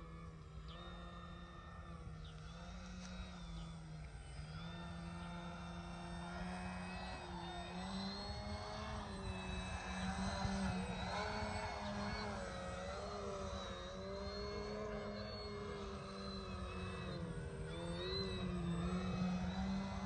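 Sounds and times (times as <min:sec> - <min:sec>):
model plane motor buzzing: 0:00.0 - 0:20.0.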